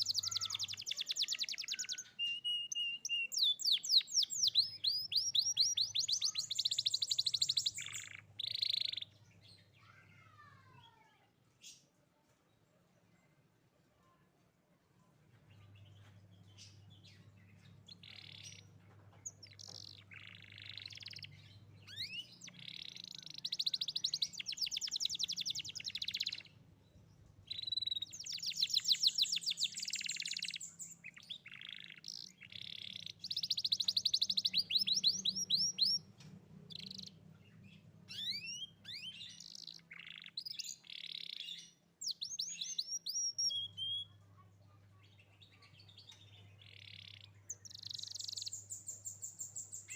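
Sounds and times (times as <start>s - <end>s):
canary singing trills: 0.0s - 10.7s, 15.6s - 26.6s, 27.3s - 49.9s.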